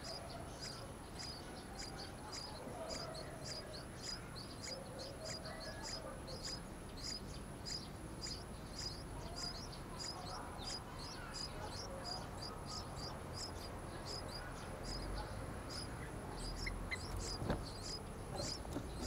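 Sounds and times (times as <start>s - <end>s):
nestlings chirping: 0.0s - 19.0s.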